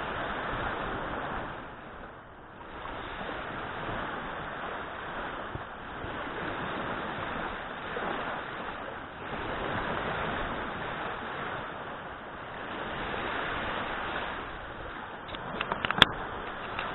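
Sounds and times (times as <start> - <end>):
waves breaking on sandy shore: 0.0 - 16.9.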